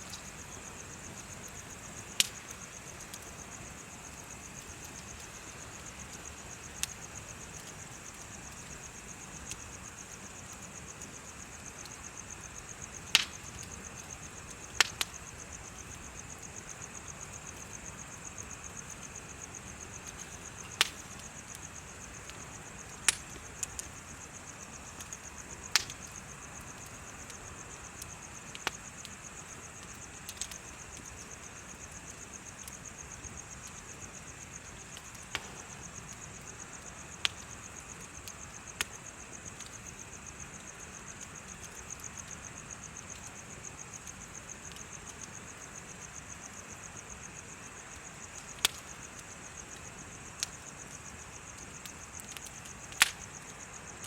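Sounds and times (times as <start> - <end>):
bonfire burning: 0.0 - 54.0
insects chirping: 0.0 - 54.0.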